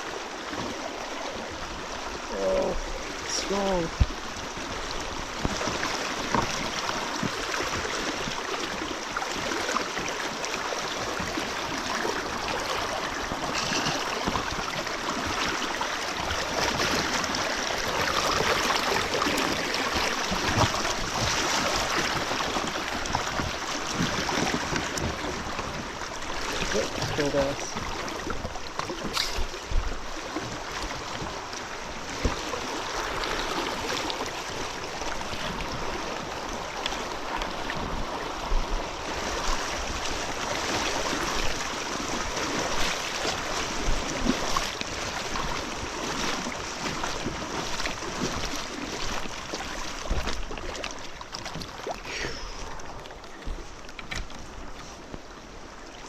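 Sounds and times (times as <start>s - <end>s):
flowing river water: 0.0s - 56.0s.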